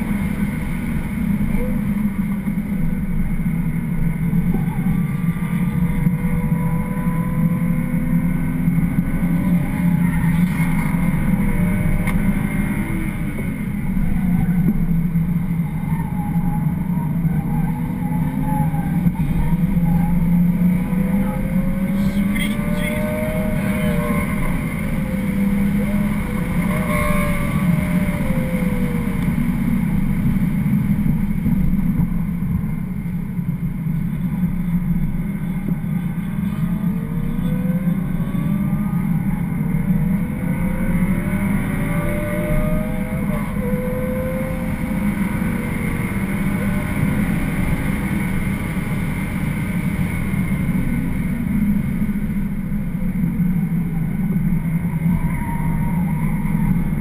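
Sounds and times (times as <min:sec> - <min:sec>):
car engine under hard driving: 0:00.0 - 0:57.0
road and wind rumble: 0:00.0 - 0:57.0.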